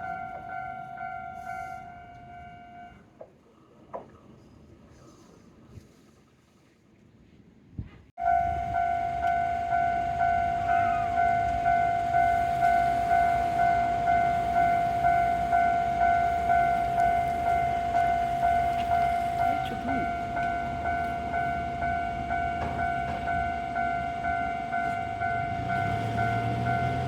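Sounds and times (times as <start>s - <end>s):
level crossing warning bell clanging: 0.0s - 3.0s, 8.2s - 27.0s.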